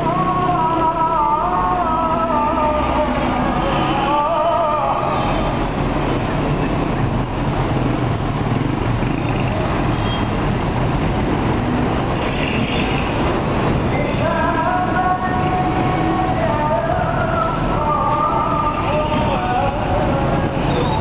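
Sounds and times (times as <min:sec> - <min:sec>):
traffic passing: 0:00.0 - 0:21.0.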